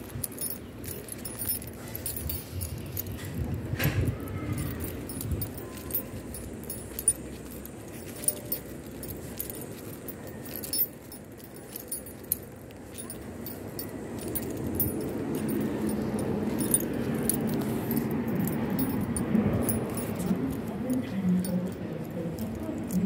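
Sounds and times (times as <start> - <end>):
light jingling and clicking: 0.0 - 23.0
footsteps on asphalt: 4.4 - 23.0.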